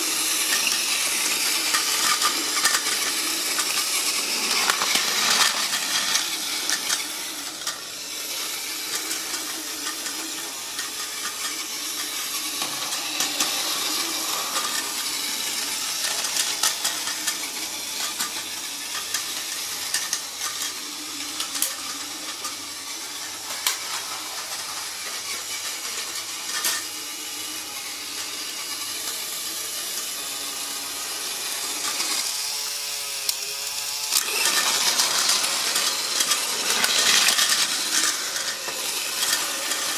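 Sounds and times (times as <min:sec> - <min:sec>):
toy train whirring on plastic track: 0:00.0 - 0:39.9.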